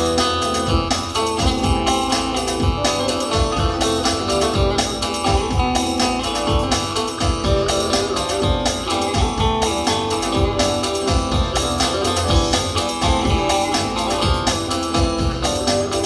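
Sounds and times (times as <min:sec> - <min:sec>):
accompaniment with steady beat: 0:00.0 - 0:16.0.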